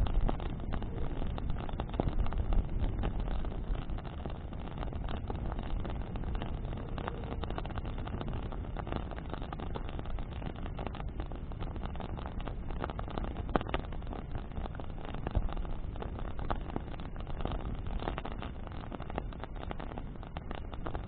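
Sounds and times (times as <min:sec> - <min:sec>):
crackles and pops of burning wood: 0:00.0 - 0:21.0
rush of flame and wind: 0:00.0 - 0:21.0.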